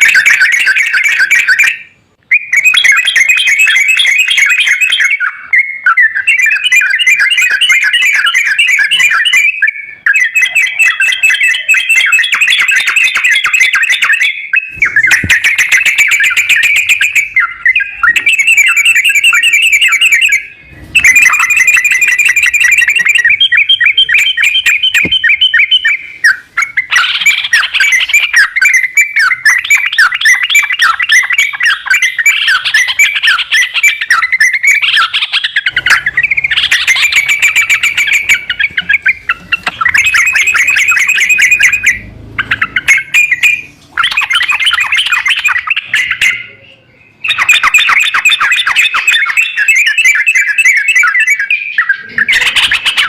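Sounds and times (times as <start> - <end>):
recorded bulbul song chattering: 0.0 - 53.0.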